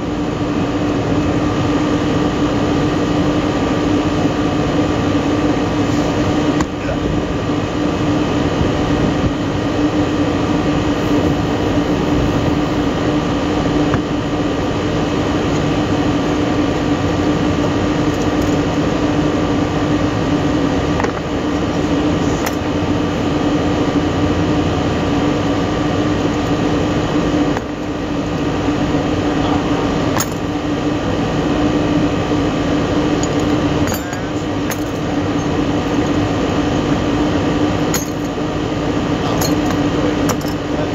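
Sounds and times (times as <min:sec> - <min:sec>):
hvac equipment droning: 0:00.0 - 0:40.9.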